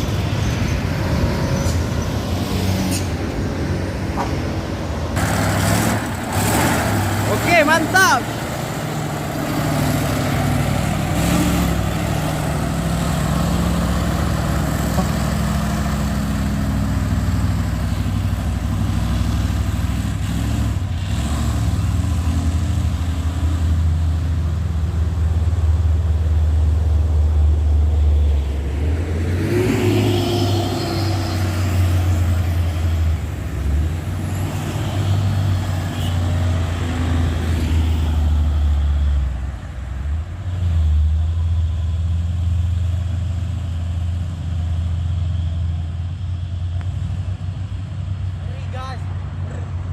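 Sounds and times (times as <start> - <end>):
truck engine droning: 0.0 - 49.9.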